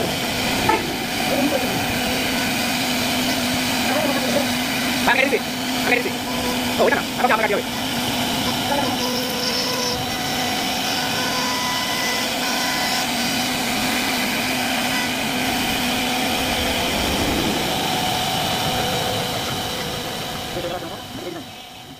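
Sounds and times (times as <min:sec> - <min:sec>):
wood router machine whine: 0:00.0 - 0:21.9.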